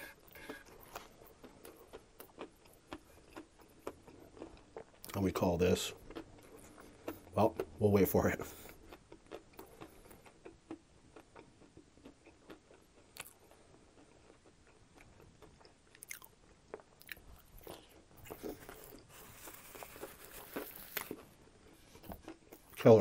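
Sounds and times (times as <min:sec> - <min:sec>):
chewing crunchy food: 0:00.0 - 0:23.0.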